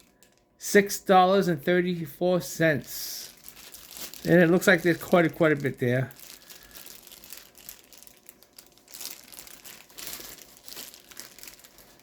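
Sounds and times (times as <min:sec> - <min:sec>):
plastic packaging crinkling: 0:00.0 - 0:00.6, 0:02.7 - 0:12.0.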